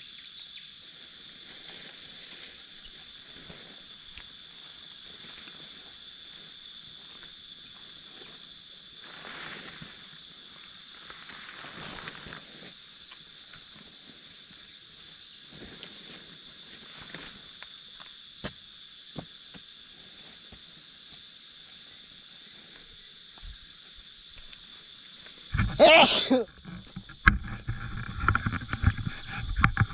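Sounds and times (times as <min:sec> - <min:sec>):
insect drone: 0:00.0 - 0:29.9.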